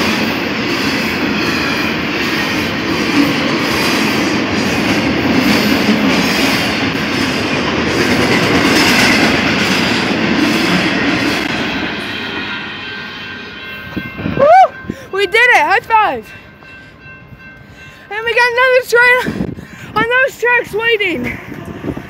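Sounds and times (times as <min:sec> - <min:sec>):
freight train wheels clattering: 0:00.0 - 0:22.0.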